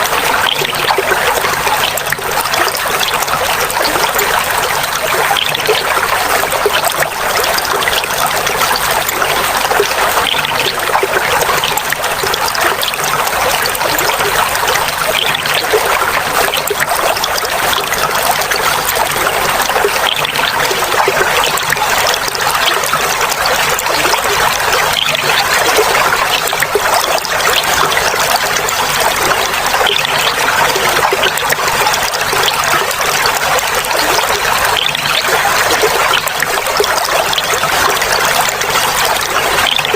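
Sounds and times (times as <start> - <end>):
water babbling over stones: 0.0 - 39.9.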